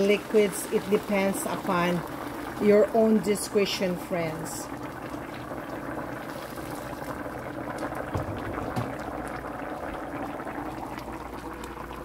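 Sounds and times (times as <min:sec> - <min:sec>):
broth bubbling: 0:00.0 - 0:12.0
water pouring into a pot: 0:00.0 - 0:12.0.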